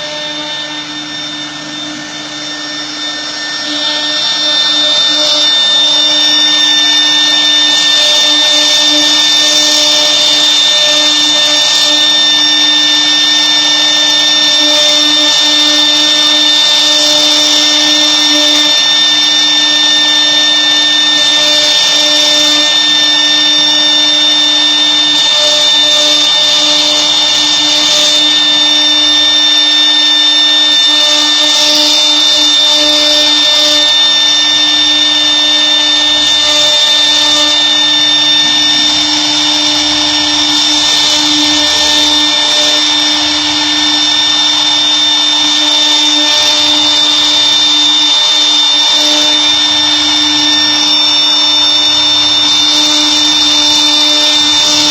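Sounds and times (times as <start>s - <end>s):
high-pitched spindle motor whine: 0.0s - 54.9s.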